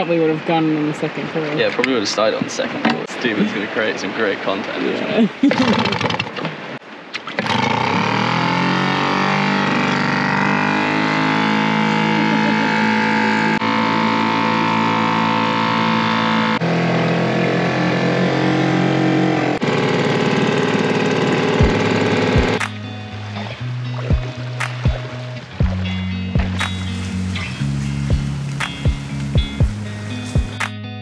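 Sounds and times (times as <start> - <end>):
outboard motor pull-started: 5.5 - 30.7.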